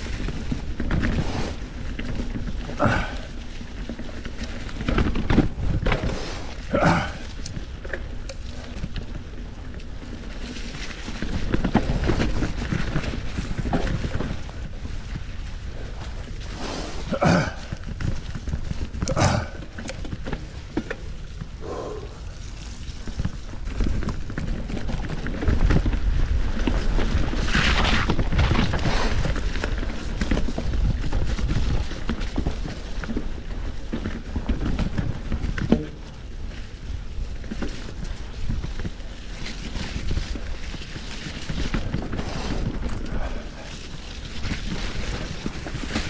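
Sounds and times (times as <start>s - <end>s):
bike clicks and rattles: 0.0s - 46.0s
bike tyres rolling on dirt: 0.0s - 46.0s.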